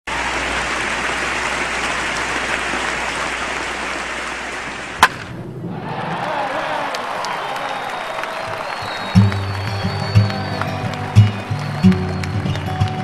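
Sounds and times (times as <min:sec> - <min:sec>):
crowd applauding: 0:00.1 - 0:04.4, 0:05.7 - 0:13.0.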